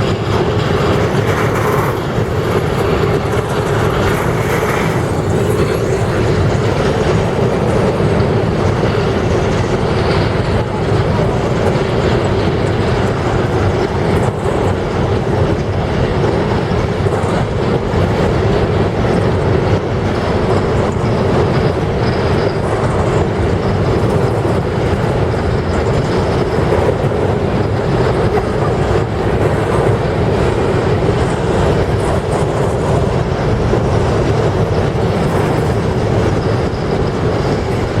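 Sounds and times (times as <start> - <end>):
train wagons rolling on rails: 0.0 - 38.0.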